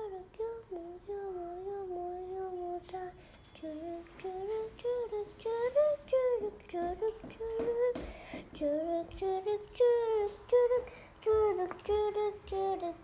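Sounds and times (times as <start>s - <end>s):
child singing without words: 0.0s - 13.0s.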